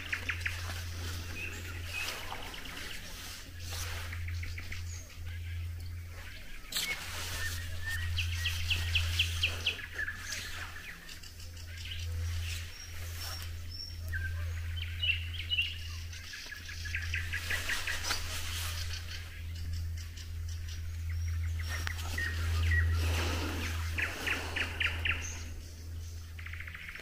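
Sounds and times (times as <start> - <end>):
low hum: 0.0 - 27.0
songbirds singing: 0.0 - 27.0.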